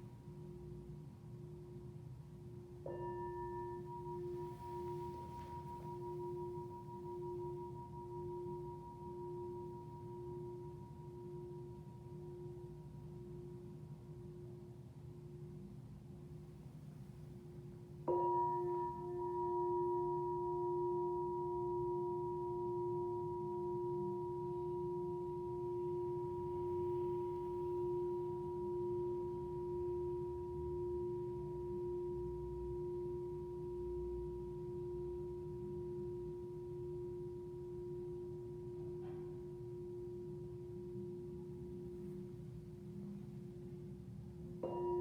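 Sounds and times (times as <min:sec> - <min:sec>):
singing bowl ringing: 0:02.8 - 0:13.8, 0:18.0 - 0:43.3, 0:44.6 - 0:45.0.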